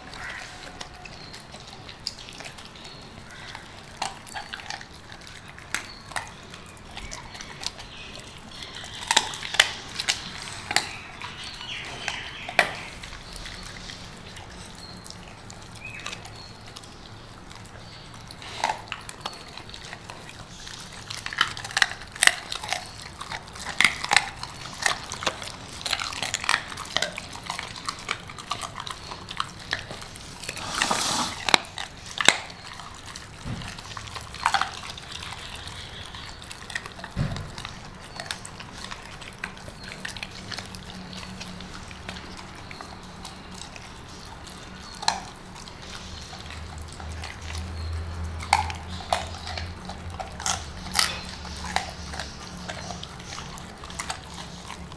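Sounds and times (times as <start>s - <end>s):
dog crunching bones: 0.0s - 54.9s.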